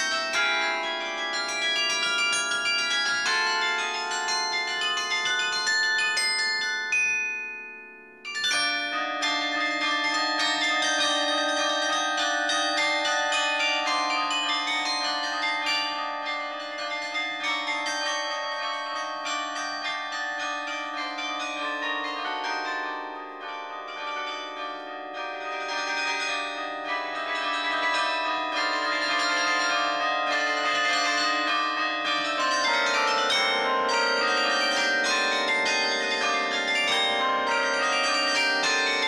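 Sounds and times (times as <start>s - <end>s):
carillon bell melody: 0.0s - 39.0s.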